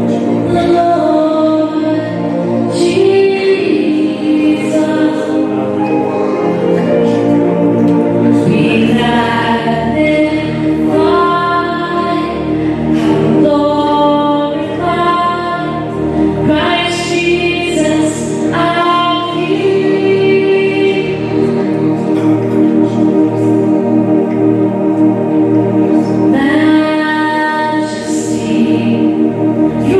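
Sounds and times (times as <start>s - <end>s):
choir singing gospel: 0.0s - 29.9s
musical accompaniment: 0.0s - 29.9s.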